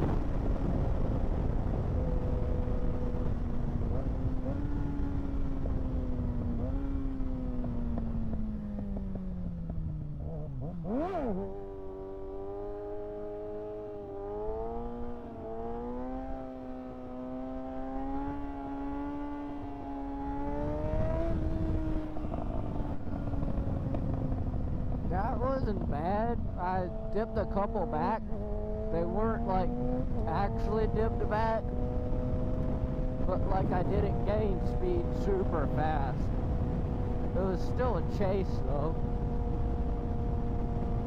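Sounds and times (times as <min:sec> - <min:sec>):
wind noise: 0:00.0 - 0:11.5, 0:18.0 - 0:41.0
motorcycle engine revving: 0:00.0 - 0:41.0.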